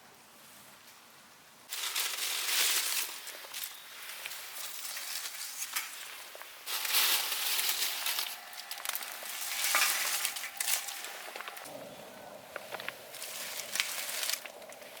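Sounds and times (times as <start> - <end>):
wood fire crackling and hissing: 0.3 - 15.0.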